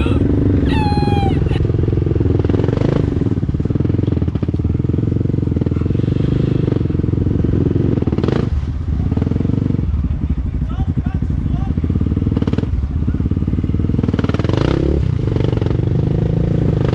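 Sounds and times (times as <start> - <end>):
dirt bike engine running: 0.0 - 16.9.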